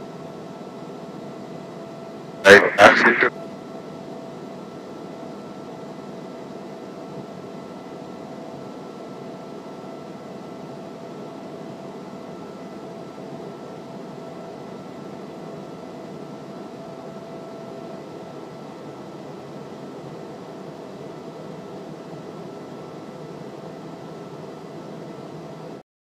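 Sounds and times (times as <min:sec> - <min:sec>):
airplane cabin engine drone: 0:00.1 - 0:25.8.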